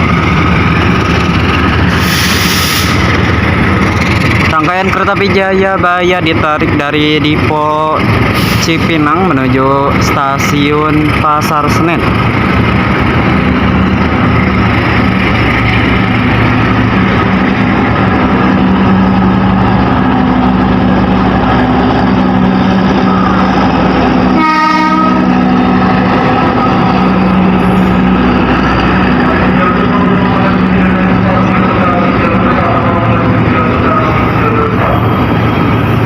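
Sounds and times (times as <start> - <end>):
locomotive engine drone: 0.0 - 36.0
train wheels rolling on rail: 0.0 - 36.0.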